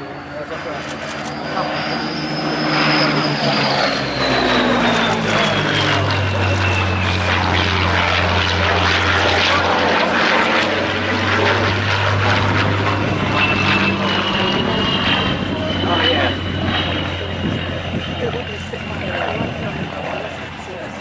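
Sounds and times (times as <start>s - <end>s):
propeller plane engine flying past: 0.0s - 21.0s.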